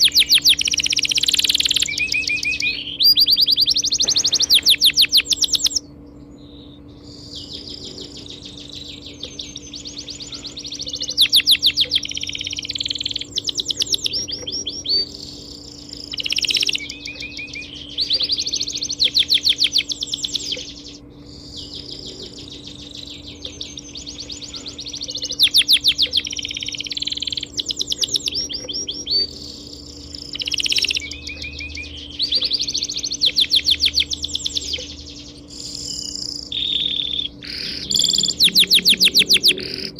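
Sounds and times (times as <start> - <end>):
songbirds chirping and trilling: 0.0 - 39.9
steady low hum: 0.0 - 39.9.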